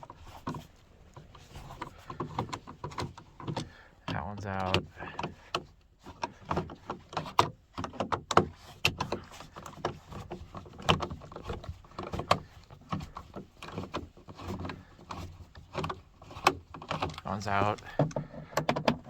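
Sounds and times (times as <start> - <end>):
metal and plastic handling sounds: 0.0 - 19.0.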